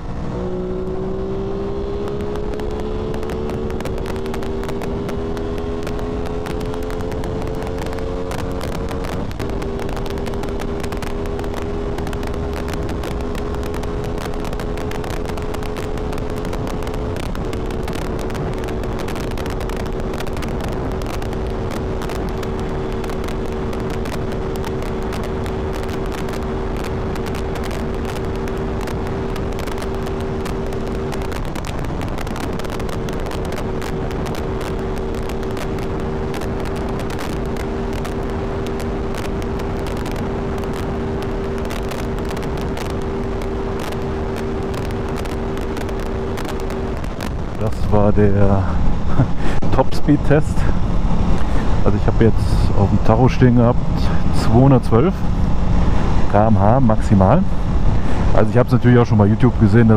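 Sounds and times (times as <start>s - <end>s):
motorcycle engine at full throttle: 0.0s - 59.9s
wind rush on microphone: 0.0s - 59.9s.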